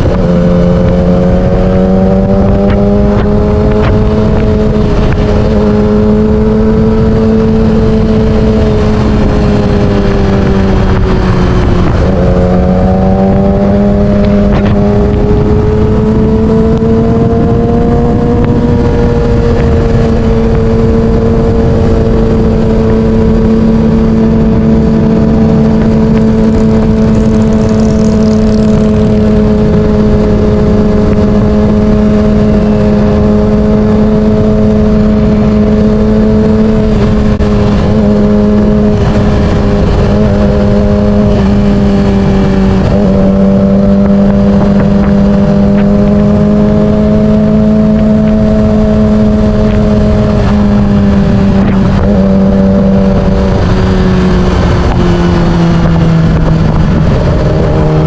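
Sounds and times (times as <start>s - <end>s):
motorcycle engine cruising: 0.0s - 58.0s
wind buffeting microphone: 0.0s - 58.0s.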